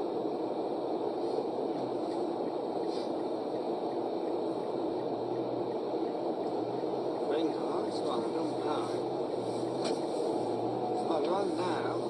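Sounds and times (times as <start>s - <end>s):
car cabin road and engine noise: 0.0s - 12.0s.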